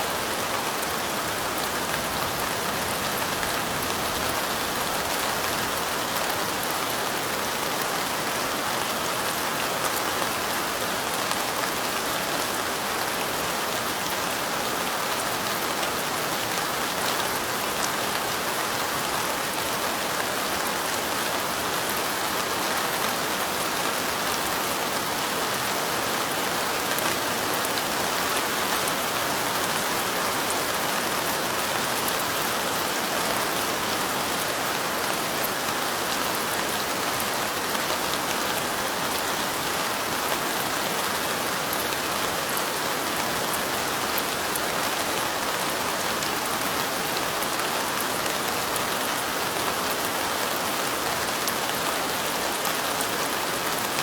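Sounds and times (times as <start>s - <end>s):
light rain patter: 0.0s - 54.0s.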